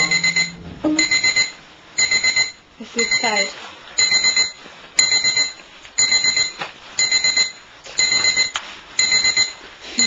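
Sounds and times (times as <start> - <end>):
electronic alarm beeping: 0.0 - 9.6.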